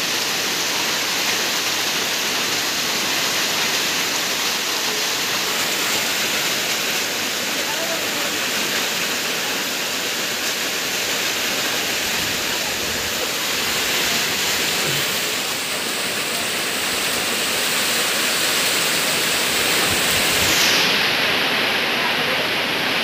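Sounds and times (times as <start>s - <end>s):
heavy rain: 0.0s - 23.0s
runoff water rushing: 0.0s - 23.0s.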